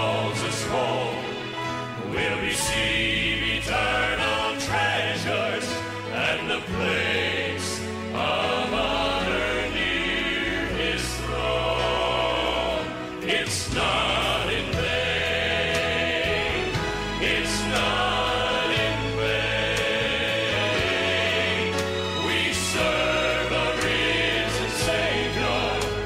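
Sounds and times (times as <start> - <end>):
choir singing gospel song: 0.0 - 26.0
sustained bass accompaniment: 0.0 - 26.0.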